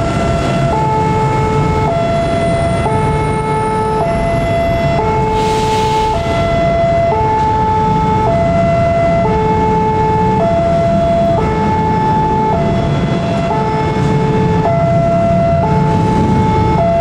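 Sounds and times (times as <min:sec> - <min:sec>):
railroad crossing alarm two-tone: 0:00.0 - 0:17.0.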